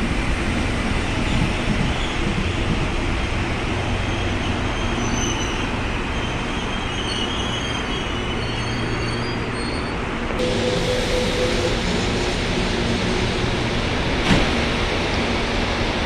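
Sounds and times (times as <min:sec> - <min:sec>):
rumble of train wheels on rails: 0:00.0 - 0:16.0.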